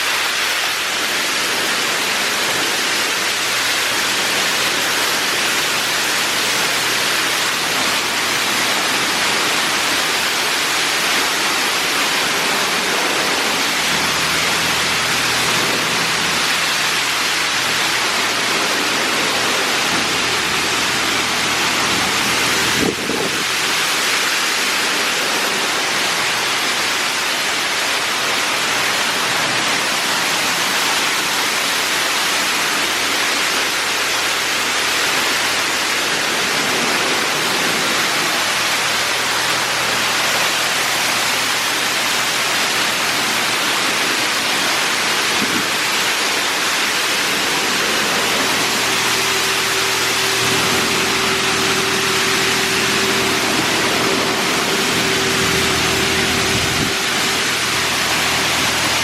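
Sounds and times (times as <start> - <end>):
car wash machinery hum: 0.0 - 59.0
water jets spraying on car: 0.0 - 59.0.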